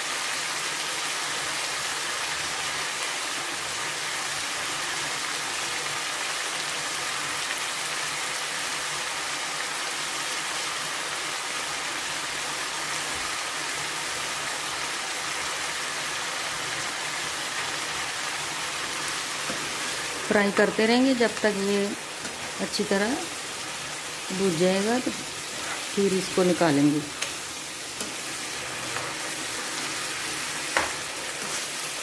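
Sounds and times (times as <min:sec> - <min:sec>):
chicken sizzling in a pan: 0:00.0 - 0:32.0.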